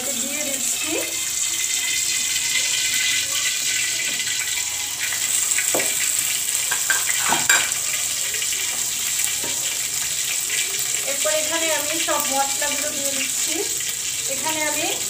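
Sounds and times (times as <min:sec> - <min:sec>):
cooking oil sizzling: 0:00.0 - 0:15.0.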